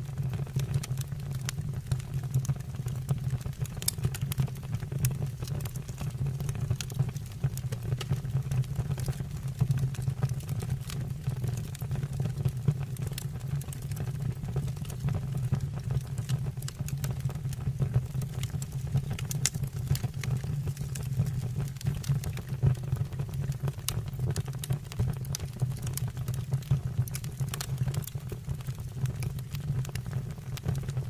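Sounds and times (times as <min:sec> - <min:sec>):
fire rumbling: 0:00.0 - 0:30.9
fire crackling and popping: 0:00.0 - 0:31.0.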